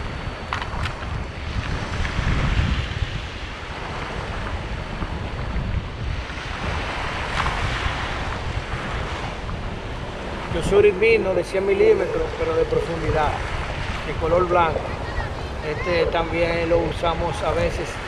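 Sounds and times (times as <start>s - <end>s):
small waves washing onto sand: 0.0s - 18.0s
wind buffeting microphone: 0.0s - 18.0s.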